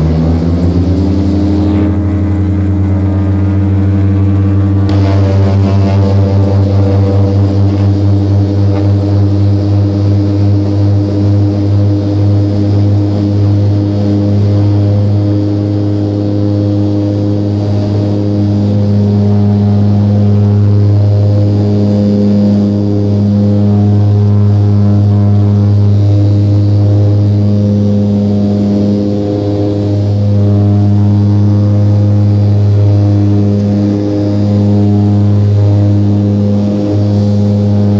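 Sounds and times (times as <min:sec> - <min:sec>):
turboprop engines humming: 0:00.0 - 0:37.9.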